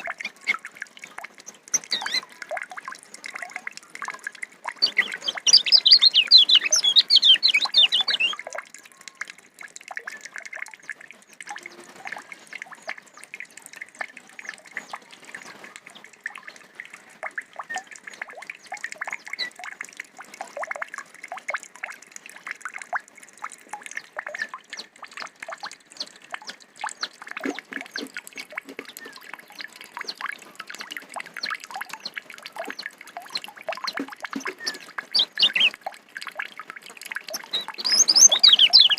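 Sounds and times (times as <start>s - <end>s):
bird chips and clicks: 0.0s - 38.9s.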